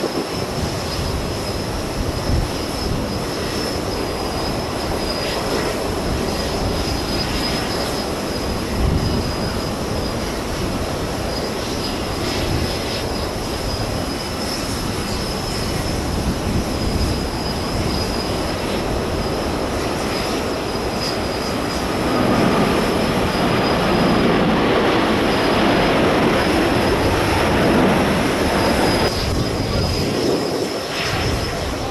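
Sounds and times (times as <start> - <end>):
jet engines rumbling: 0.0 - 31.9
wind buffeting microphone: 0.0 - 31.9
faint high whine: 0.2 - 31.9.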